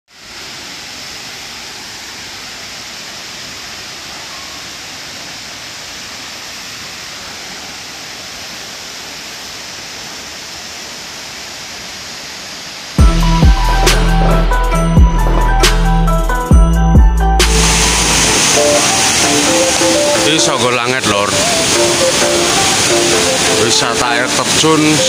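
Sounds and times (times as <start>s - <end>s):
waterfall rushing: 0.1s - 25.0s.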